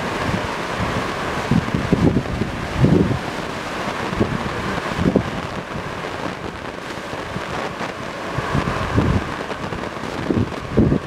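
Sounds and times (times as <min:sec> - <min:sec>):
distant jet engines roaring: 0:00.0 - 0:11.0
wind buffeting microphone: 0:00.0 - 0:11.0.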